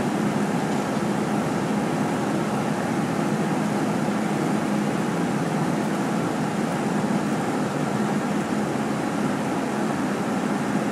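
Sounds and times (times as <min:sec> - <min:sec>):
bus engine hum: 0:00.0 - 0:10.9
road noise: 0:00.0 - 0:10.9.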